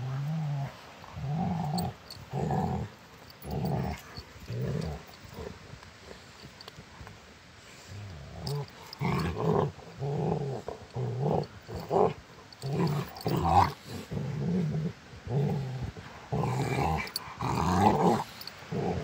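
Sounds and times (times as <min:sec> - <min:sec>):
dogs growling: 0:00.0 - 0:06.5, 0:07.8 - 0:19.0.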